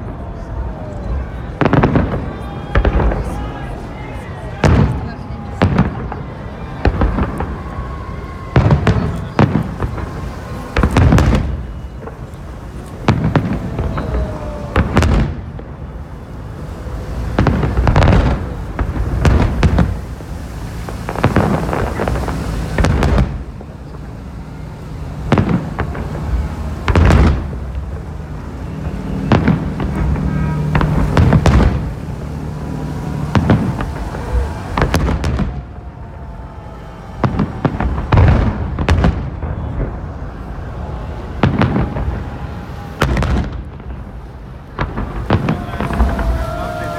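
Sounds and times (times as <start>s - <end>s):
continuous low rumble: 0.0s - 46.9s
firework shells booming: 1.4s - 3.9s, 4.6s - 46.9s.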